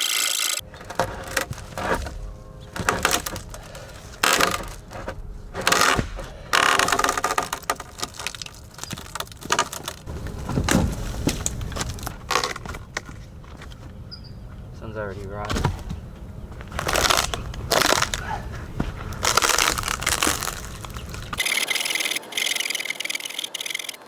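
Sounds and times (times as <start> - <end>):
hedge shears snipping branches: 0.1 - 21.4
twigs and leaves rustling: 0.6 - 24.0.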